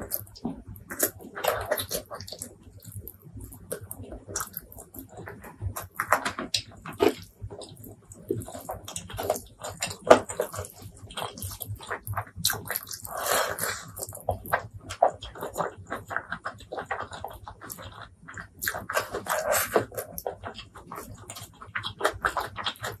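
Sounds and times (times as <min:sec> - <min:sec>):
chewing and wet mouth sounds: 0:00.0 - 0:23.0.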